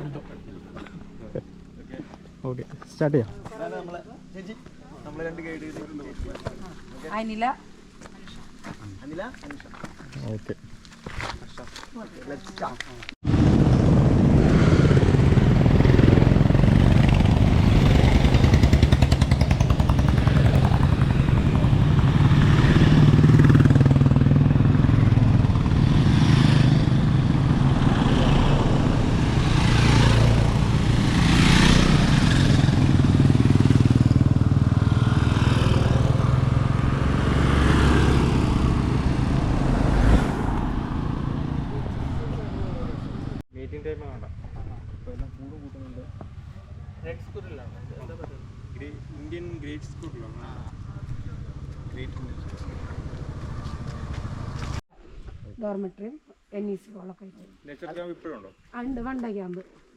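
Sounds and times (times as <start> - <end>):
vehicle engine rumbling: 0.0 - 11.6, 12.6 - 54.8.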